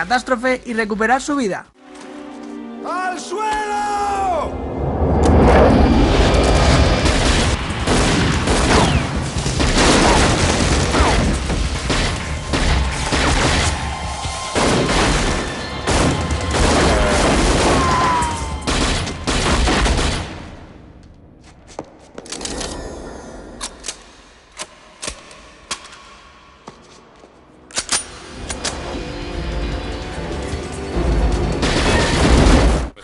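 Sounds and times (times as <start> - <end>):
film music: 0.0 - 33.0.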